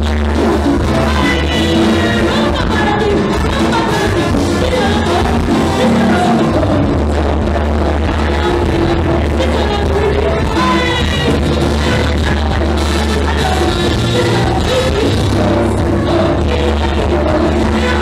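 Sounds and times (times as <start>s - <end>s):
heavy bass line: 0.0s - 18.0s
live dance band playing: 0.0s - 18.0s
percussion: 0.0s - 18.0s
trumpets and saxophone: 0.0s - 18.0s.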